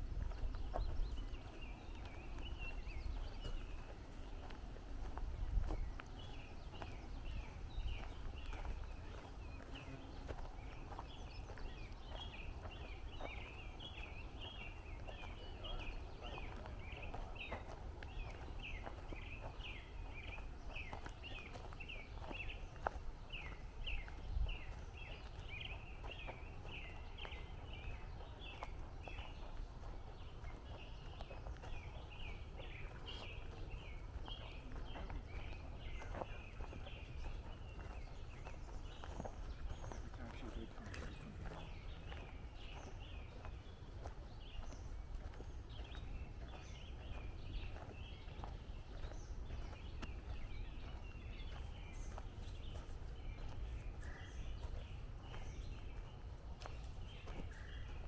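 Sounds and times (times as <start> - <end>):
birds chirping: 0.0 - 58.0
faint footsteps on trail: 0.0 - 58.0.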